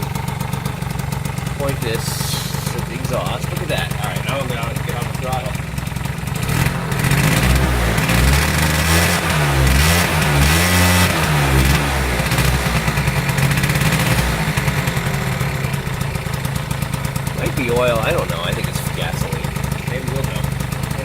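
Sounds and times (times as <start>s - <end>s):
scooter engine revving: 0.0s - 21.0s.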